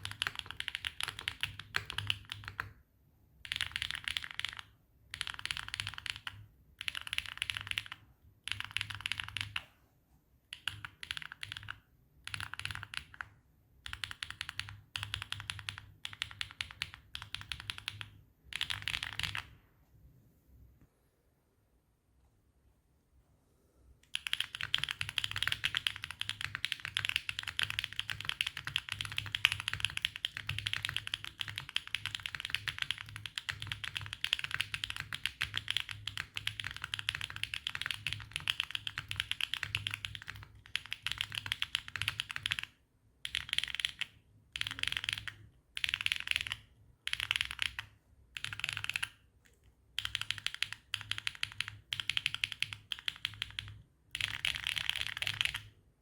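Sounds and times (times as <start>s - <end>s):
mechanical keyboard typing: 0.0s - 2.8s, 3.4s - 9.7s, 10.5s - 19.5s, 24.0s - 49.2s, 49.9s - 55.8s.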